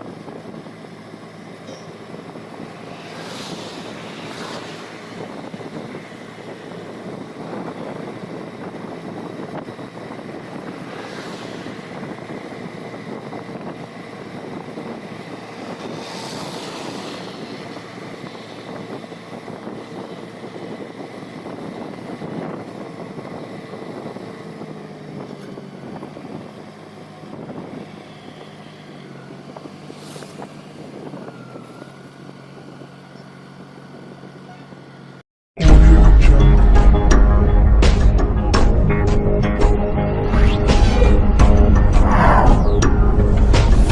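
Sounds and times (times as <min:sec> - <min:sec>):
road and wind noise: 0:00.0 - 0:43.9
vehicle engine hum: 0:00.0 - 0:43.9.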